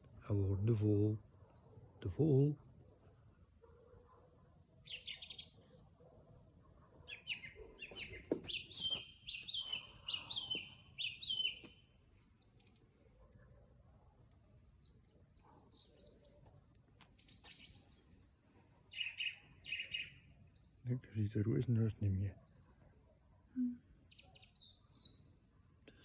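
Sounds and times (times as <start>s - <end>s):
high bird trill: 0.0s - 6.2s, 6.8s - 13.7s, 17.2s - 25.4s.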